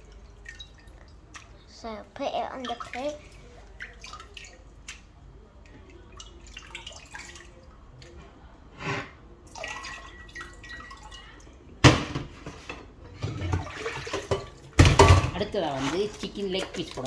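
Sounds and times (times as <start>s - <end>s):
water dripping and splashing: 0.0s - 8.2s, 9.5s - 11.6s, 13.4s - 17.0s.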